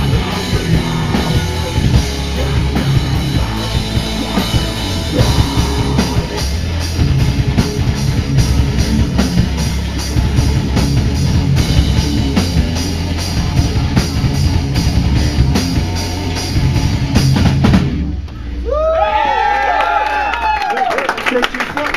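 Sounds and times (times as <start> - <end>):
drum kit beat: 0.0 - 18.9
distorted electric guitars: 0.0 - 19.3
bass guitar: 0.0 - 20.9.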